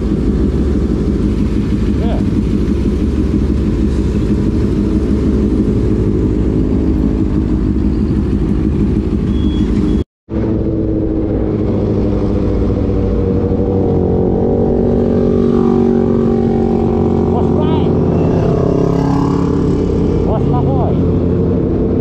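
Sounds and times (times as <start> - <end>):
motorcycle engines idling: 0.0 - 21.9
motorcycle engine accelerating: 0.0 - 22.0.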